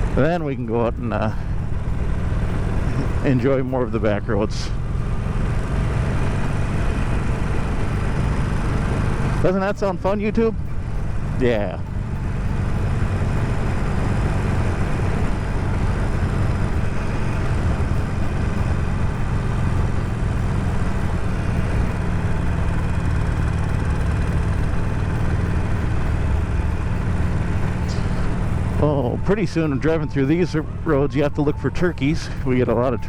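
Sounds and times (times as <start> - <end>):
motorcycle engine cruising: 0.0 - 33.0
wind and road noise: 0.0 - 33.0.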